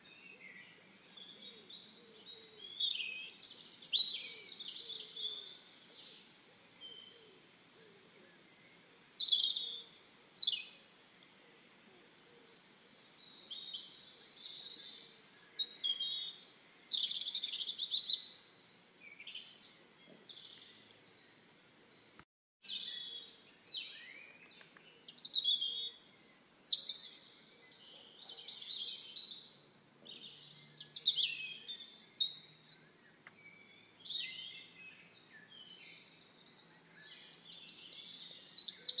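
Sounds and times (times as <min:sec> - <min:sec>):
birds singing with trills: 0:00.0 - 0:07.4, 0:08.4 - 0:39.0.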